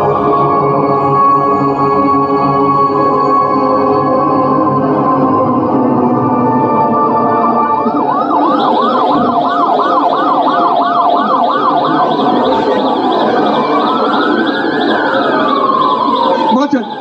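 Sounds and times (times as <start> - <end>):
ambulance siren: 0.0 - 17.0
sustained organ-like music: 0.0 - 17.0.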